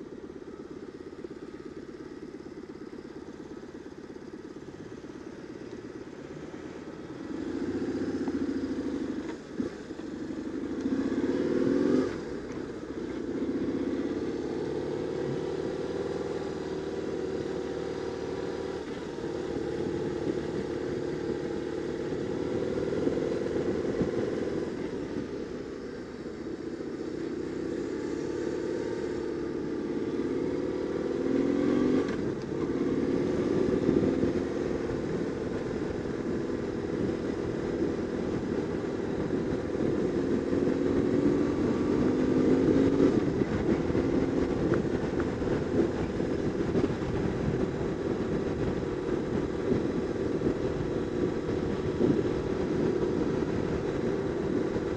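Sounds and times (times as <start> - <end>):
motorcycle engine: 0.0 - 54.9.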